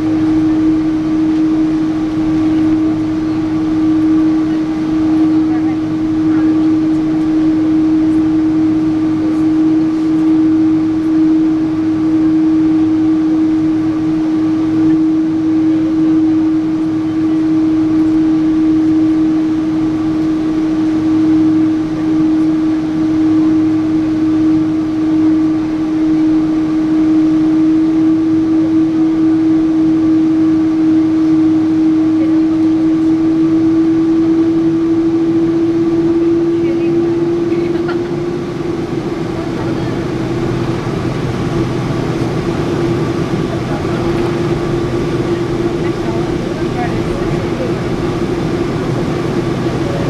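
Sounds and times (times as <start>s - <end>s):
airliner engine and airflow rush: 0.0s - 50.0s
constant humming tone: 0.0s - 50.0s.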